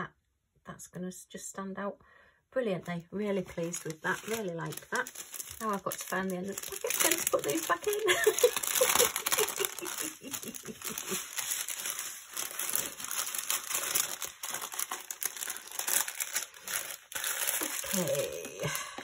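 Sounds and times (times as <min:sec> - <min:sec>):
plastic bags crinkling: 0:03.2 - 0:19.0.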